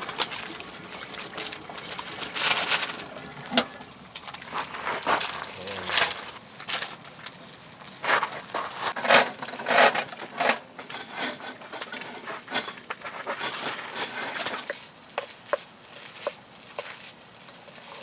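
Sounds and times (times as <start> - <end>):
camping gear rustling and clattering: 0.0 - 18.0.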